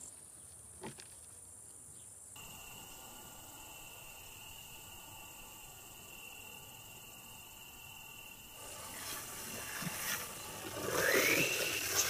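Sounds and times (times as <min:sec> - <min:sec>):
faint outdoor hiss: 0:00.0 - 0:12.0
high insect trill: 0:02.3 - 0:12.0.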